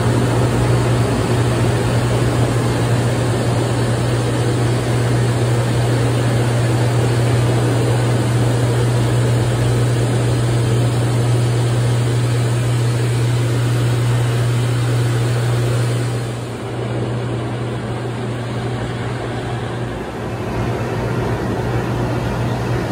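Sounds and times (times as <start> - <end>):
pump humming: 0.0 - 22.9.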